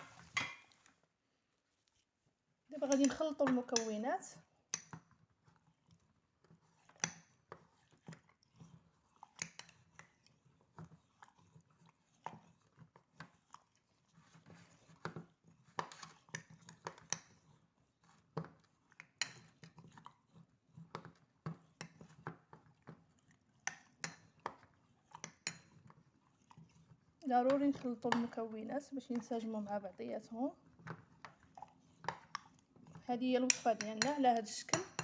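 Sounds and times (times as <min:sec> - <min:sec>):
spoon scraping in a container: 0:04.8 - 0:35.0.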